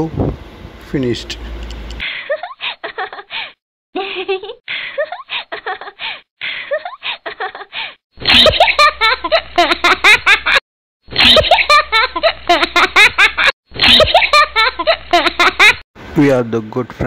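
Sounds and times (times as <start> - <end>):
person giggling and laughing: 2.0 - 15.8.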